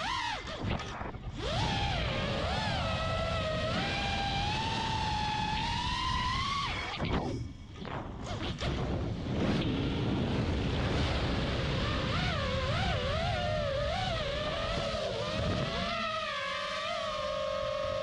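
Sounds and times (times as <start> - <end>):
drone motor whine: 0.0 - 18.0
wind rushing on microphone: 0.6 - 16.2.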